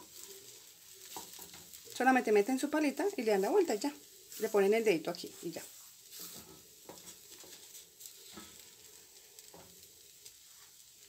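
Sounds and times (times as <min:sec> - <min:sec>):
egg frying in a pan: 0:00.0 - 0:11.0.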